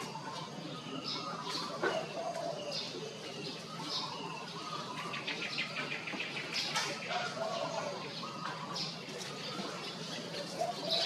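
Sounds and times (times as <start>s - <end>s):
lower wavering calls: 0.0s - 11.0s.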